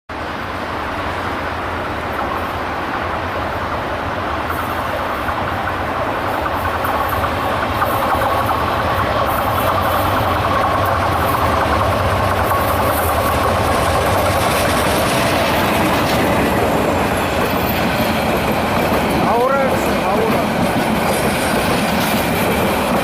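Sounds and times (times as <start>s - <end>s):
passenger train approaching: 0.1s - 23.0s.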